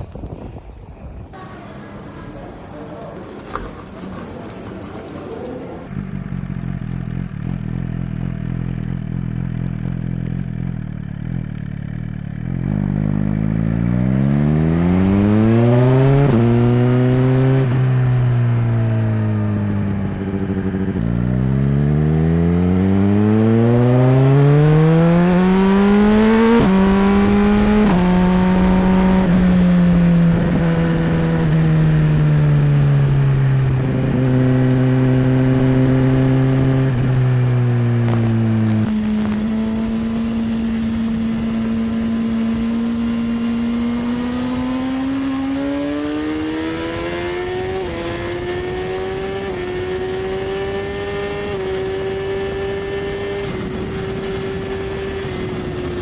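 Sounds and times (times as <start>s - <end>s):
motorcycle engine revving: 1.4s - 56.0s.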